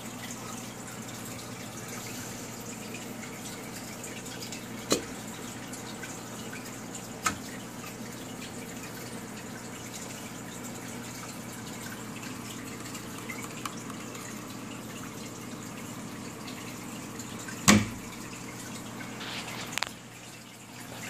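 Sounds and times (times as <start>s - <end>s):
aquarium water bubbling: 0.0s - 21.0s.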